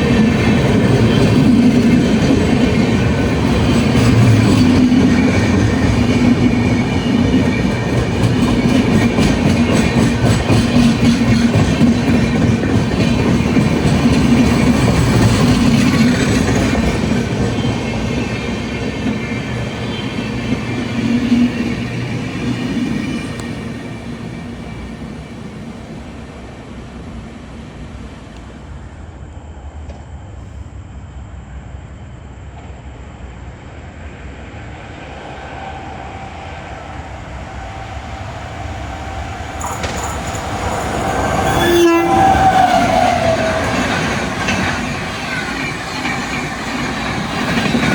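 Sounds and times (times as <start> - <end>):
train running past: 0.0 - 47.9
train steady tone: 0.0 - 47.9.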